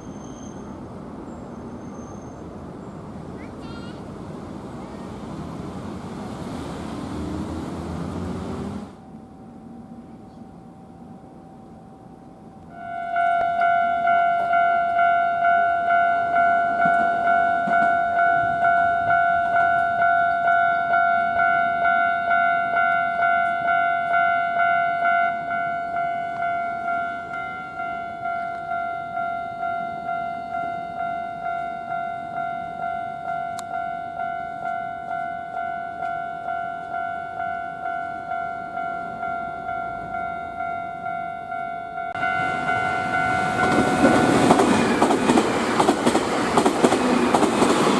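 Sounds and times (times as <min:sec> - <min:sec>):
train running noise: 0:00.0 - 0:09.2, 0:12.6 - 0:47.9
level-crossing warning bell: 0:08.0 - 0:47.9.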